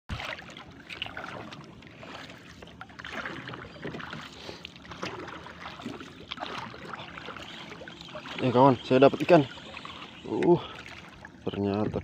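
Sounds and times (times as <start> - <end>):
water lapping around boat: 0.1 - 12.0
water splashes: 0.1 - 12.0.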